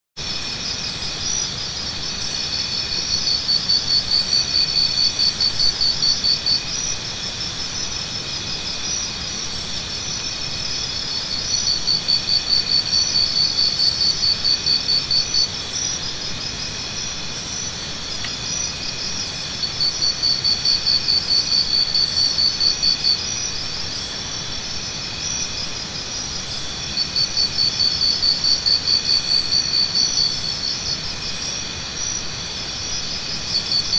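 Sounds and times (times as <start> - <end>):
insects chirring: 0.2 - 33.9
loud rapid insect pulses: 0.2 - 33.9.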